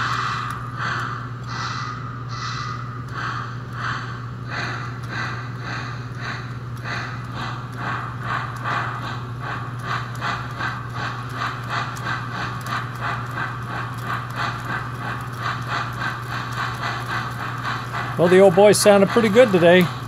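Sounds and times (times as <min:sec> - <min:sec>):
steady low hum: 0:00.0 - 0:20.0
steam locomotive chuffs from loudspeaker: 0:00.0 - 0:20.0.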